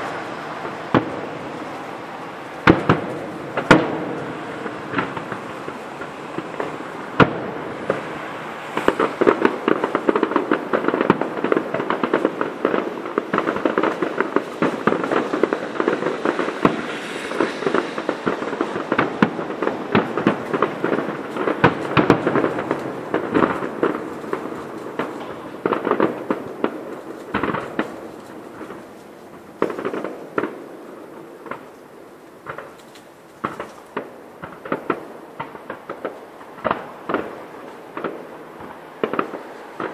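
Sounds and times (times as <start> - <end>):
fireworks cracking and popping: 0.0 - 39.9.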